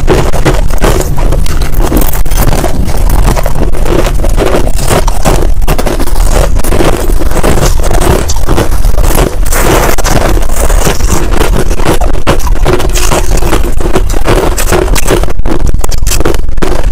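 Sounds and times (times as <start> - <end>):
crushed ice being chewed: 0.0 - 16.9.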